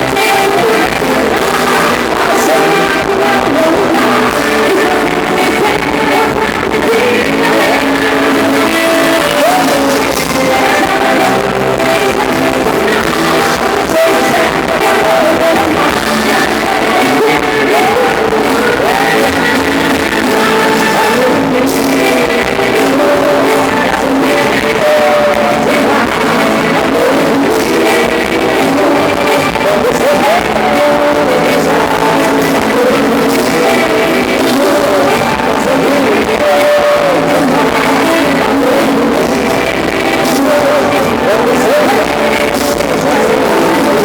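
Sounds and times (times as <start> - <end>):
band playing music: 0.0 - 44.0
person singing: 0.0 - 44.0.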